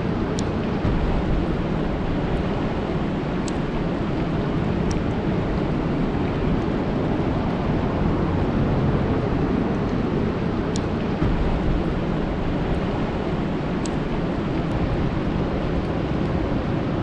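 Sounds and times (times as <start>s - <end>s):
rain falling on a lake: 0.4s - 17.0s.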